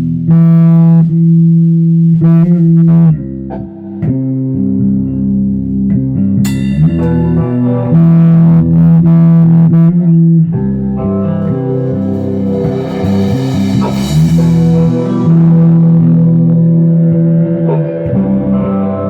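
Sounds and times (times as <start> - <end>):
guitar and bass jam: 0.0 - 19.0.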